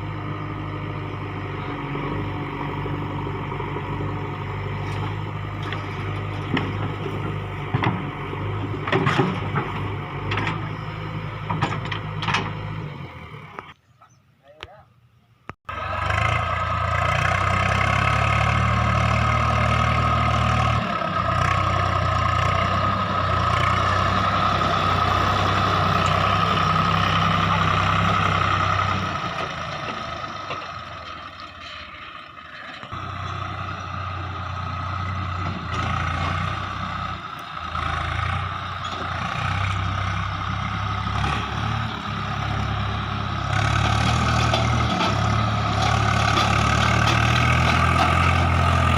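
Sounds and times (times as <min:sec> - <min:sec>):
heavy diesel engine running: 0:00.0 - 0:13.6, 0:15.7 - 0:48.9.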